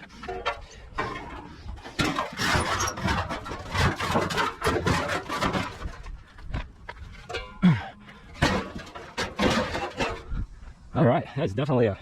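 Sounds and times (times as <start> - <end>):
scrap metal clattering: 0.0 - 6.2, 7.0 - 10.4.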